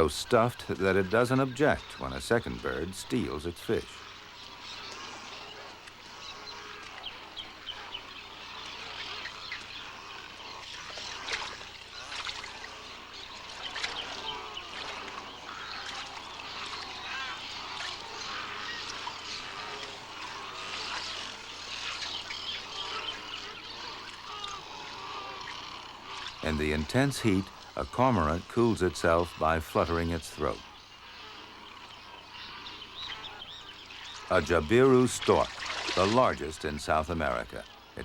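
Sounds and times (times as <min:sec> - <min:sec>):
chorus of birds calling: 0:00.0 - 0:38.0.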